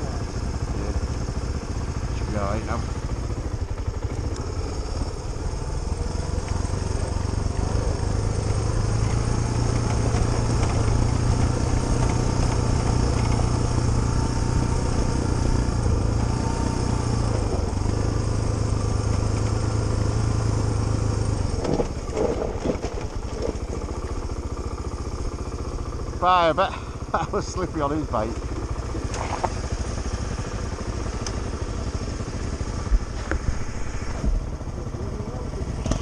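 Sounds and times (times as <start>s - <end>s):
motorcycle engine pulling: 0.0s - 36.0s.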